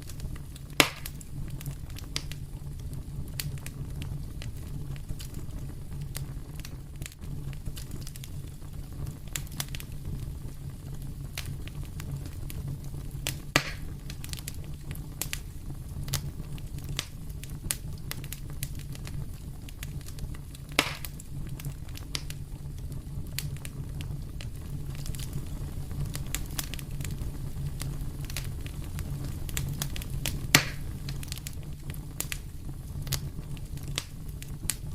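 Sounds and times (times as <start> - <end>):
loud fire pops: 0.0 - 34.9
low fire rumble: 0.0 - 34.9
wood fire crackling: 0.0 - 34.9.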